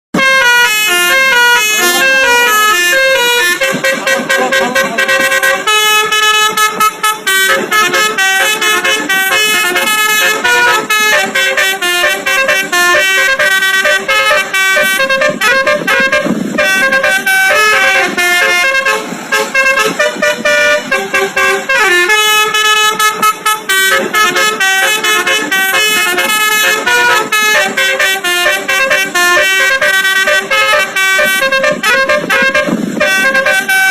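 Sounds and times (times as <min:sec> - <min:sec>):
multi-tone horn melody: 0:00.2 - 0:33.9.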